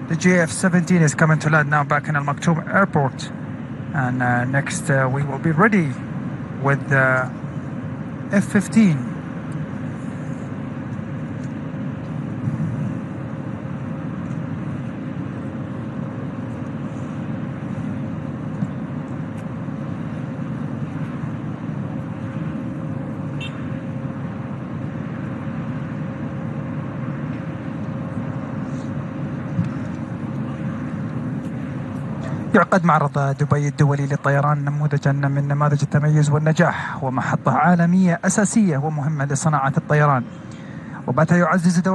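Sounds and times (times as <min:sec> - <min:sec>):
distant jet engine rumble: 0:00.0 - 0:41.9
faint steady whine: 0:00.0 - 0:41.9.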